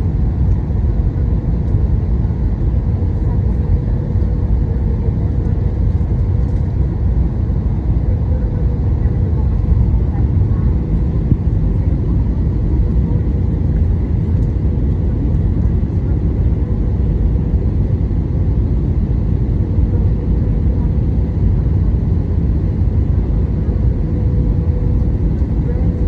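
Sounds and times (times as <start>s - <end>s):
jet engines and airflow rumbling: 0.0s - 26.0s.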